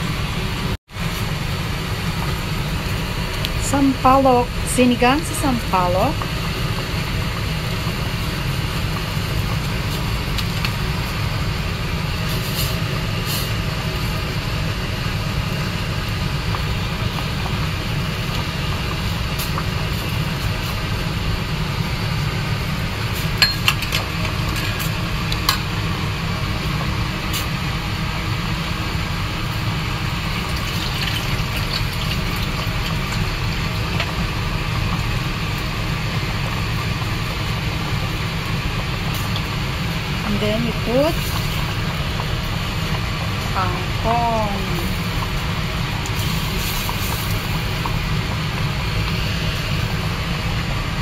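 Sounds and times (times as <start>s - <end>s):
soup bubbling at a boil: 0.9s - 40.2s, 40.9s - 51.0s.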